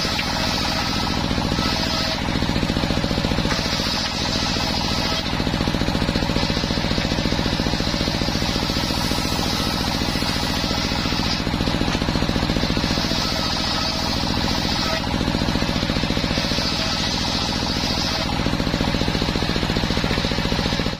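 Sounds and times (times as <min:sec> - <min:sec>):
engine running with pulsing beat: 0:00.0 - 0:20.9.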